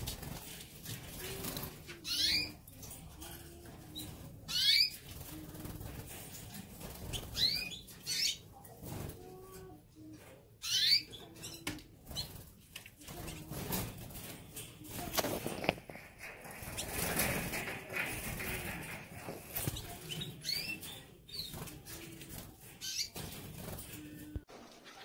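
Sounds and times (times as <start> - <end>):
birds flapping wings: 0.0 - 7.7, 12.0 - 25.0
canary chirps: 0.0 - 13.8, 15.0 - 23.4.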